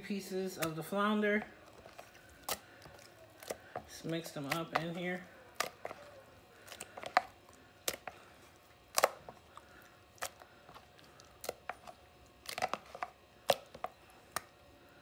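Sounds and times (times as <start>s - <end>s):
wet squelches in batter: 0.4s - 15.0s.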